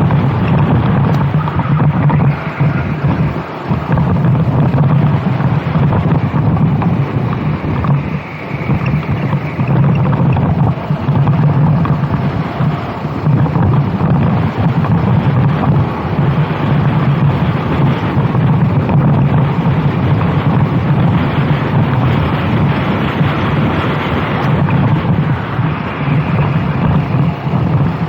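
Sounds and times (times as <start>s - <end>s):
kart engine running hard: 0.0s - 28.0s
wind buffeting microphone: 0.0s - 28.0s.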